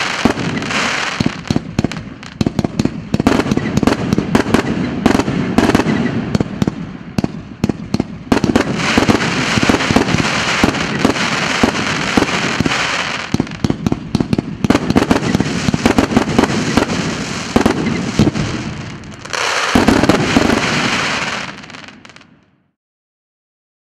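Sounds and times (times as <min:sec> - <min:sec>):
fireworks crackling: 0:00.0 - 0:22.5
fireworks launching and bursting: 0:00.0 - 0:22.8.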